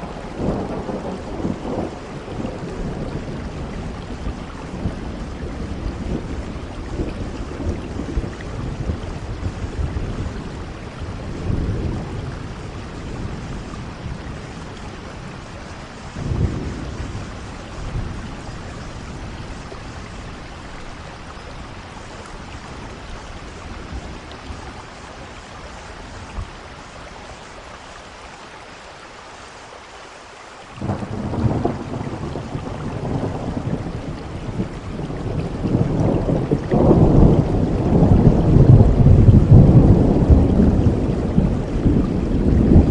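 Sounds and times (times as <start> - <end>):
thunder rumbling: 0.0 - 27.4, 30.8 - 42.9
steady rain: 0.0 - 42.9.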